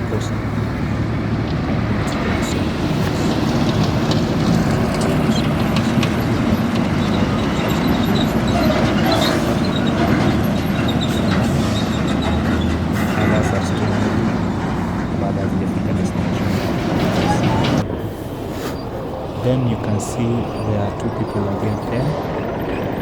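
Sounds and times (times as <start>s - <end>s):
truck diesel engine rumbling: 0.0s - 23.0s.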